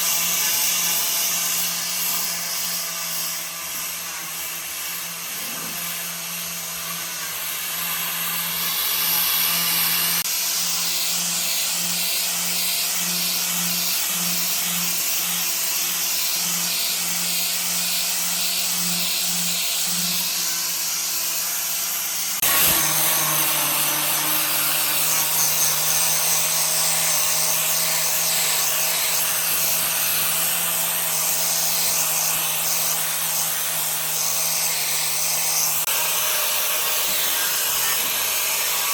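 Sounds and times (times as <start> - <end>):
electric power tool running: 0.0 - 38.9.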